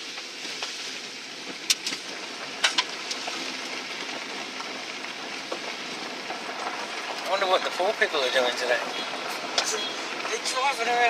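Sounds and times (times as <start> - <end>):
vehicle road noise: 0.0 - 11.0.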